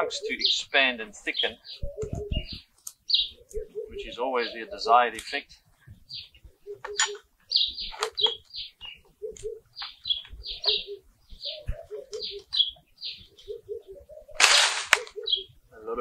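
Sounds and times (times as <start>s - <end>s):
dove cooing: 0.0s - 5.2s, 5.9s - 16.0s
birds chirping: 0.0s - 16.0s.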